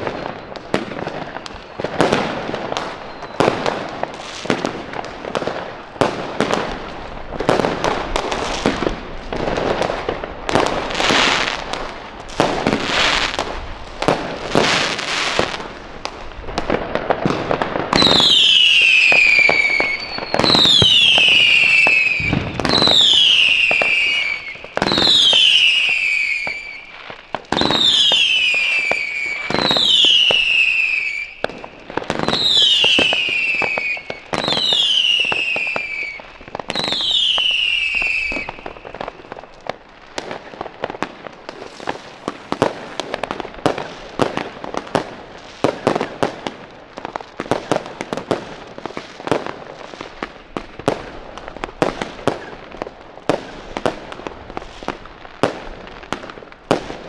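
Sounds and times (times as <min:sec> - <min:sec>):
firework bangs with falling whistles: 0:00.0 - 0:57.0
firework crackle of pops: 0:00.0 - 0:57.0.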